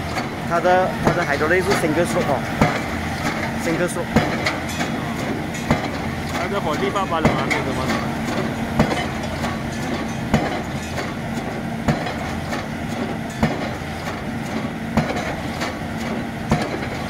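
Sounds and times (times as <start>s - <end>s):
engine humming: 0.0s - 17.0s
pile hammer striking: 1.0s - 17.0s.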